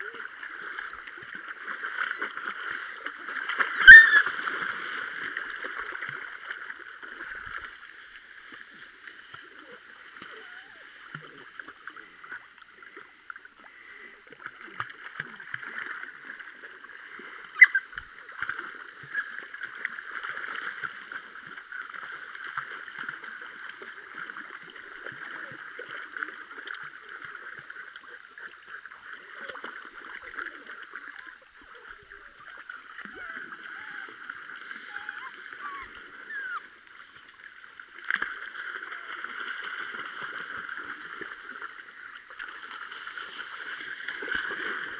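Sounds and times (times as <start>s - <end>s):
water splashing: 0.0s - 44.9s.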